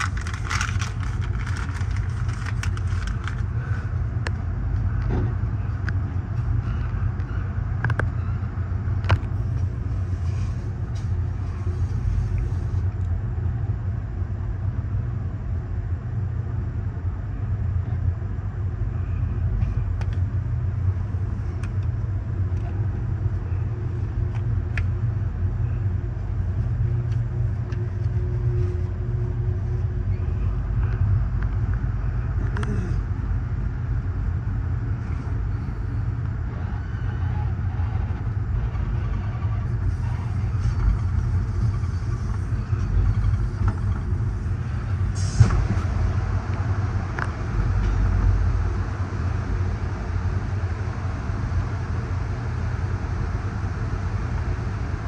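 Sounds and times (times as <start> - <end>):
train coach rumbling on track: 0.0 - 55.0.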